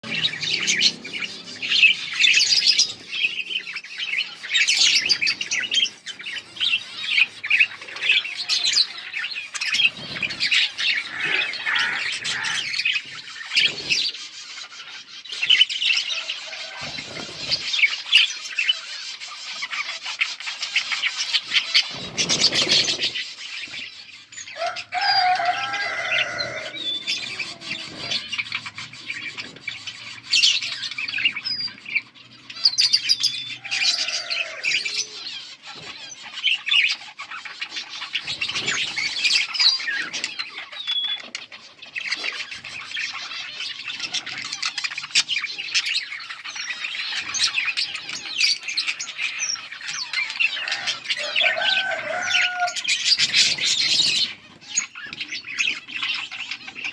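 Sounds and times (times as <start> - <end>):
budgerigars chattering: 0.0 - 56.9.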